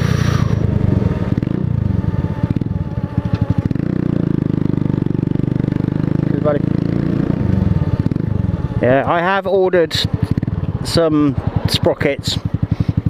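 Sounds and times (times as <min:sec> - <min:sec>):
motorcycle engine chugging: 0:00.0 - 0:13.0.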